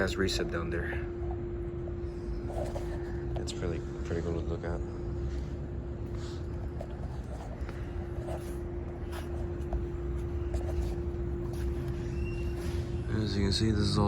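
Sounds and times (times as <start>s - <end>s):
air conditioner unit humming: 0.0s - 14.0s.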